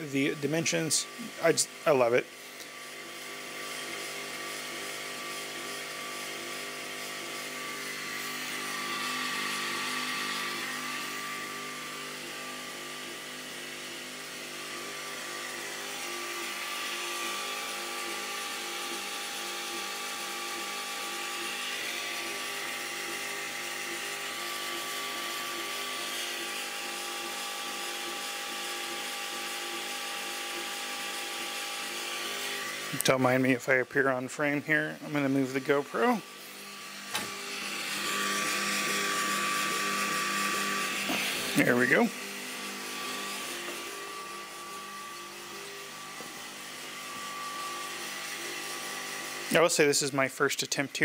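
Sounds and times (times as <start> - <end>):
motor whine: 0.0 - 50.1
air pump and fan hum: 0.0 - 51.0.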